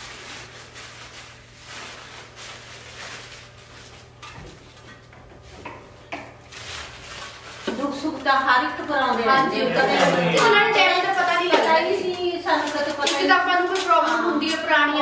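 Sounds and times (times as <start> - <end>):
plastic bags rustling: 0.0 - 4.8, 5.4 - 15.0.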